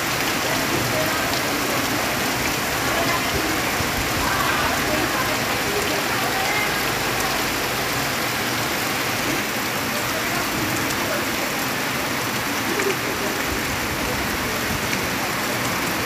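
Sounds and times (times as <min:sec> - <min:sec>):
heavy rain on leaves: 0:00.0 - 0:16.0.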